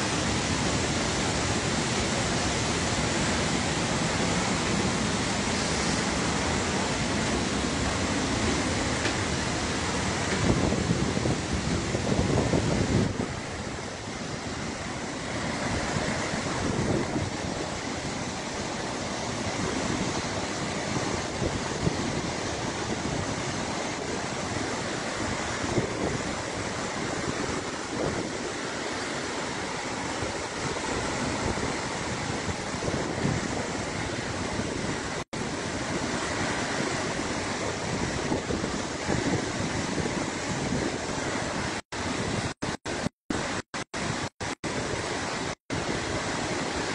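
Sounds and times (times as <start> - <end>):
water rushing over spillway: 0.0 - 46.9.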